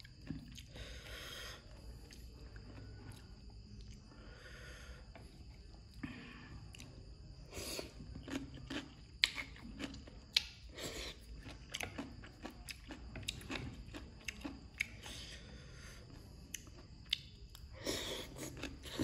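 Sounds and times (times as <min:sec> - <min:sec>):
chewing and crunching: 0:00.0 - 0:04.2, 0:06.6 - 0:19.0.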